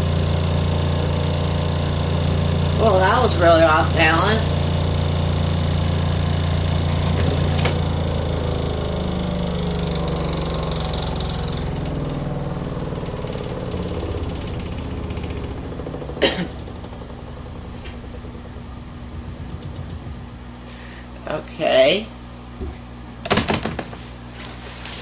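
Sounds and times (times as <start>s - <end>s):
spin-dryer humming: 0.0s - 25.0s.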